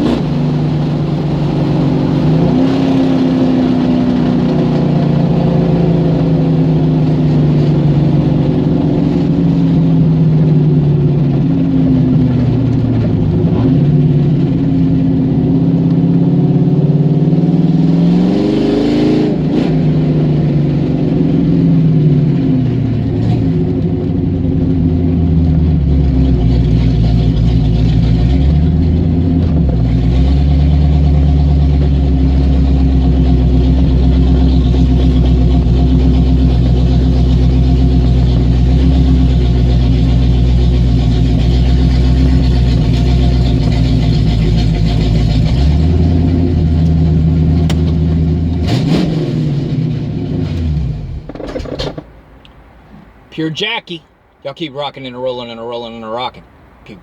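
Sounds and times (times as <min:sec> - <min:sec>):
car engine and exhaust running: 0:00.0 - 0:57.0.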